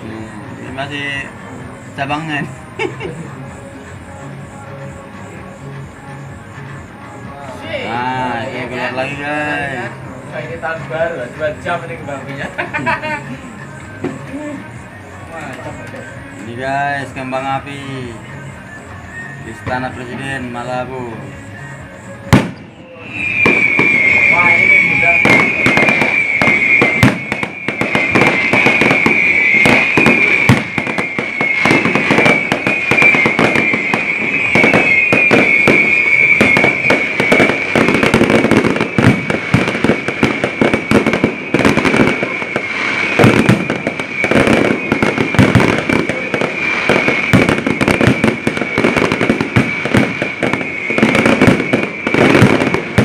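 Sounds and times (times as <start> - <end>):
fireworks bangs and crackles: 0.0 - 53.0
steady high whine: 0.0 - 53.0.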